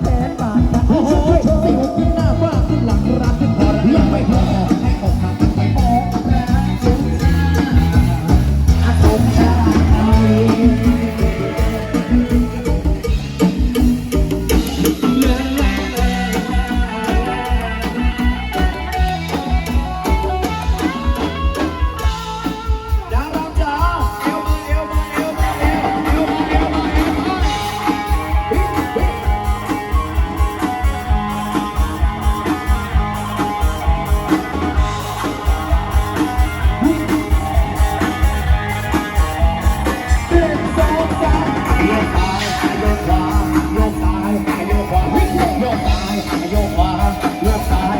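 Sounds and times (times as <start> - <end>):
guitar: 0.0 - 47.9
heavy drum beat: 0.0 - 47.9
person singing: 0.0 - 47.9
procession band music: 0.0 - 47.9.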